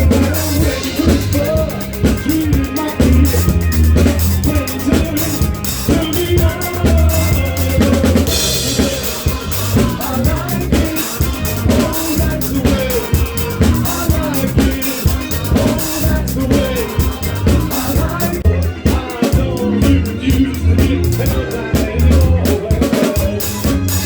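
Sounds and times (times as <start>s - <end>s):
bass line: 0.0s - 24.0s
drum kit beat: 0.0s - 24.0s
soul band playing live: 0.0s - 24.0s.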